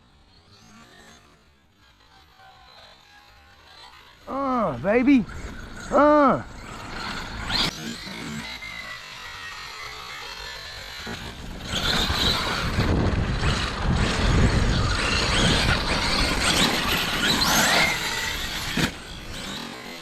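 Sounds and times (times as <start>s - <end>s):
electric motor whining: 0.0s - 20.0s
tyres on gravel: 3.4s - 20.0s.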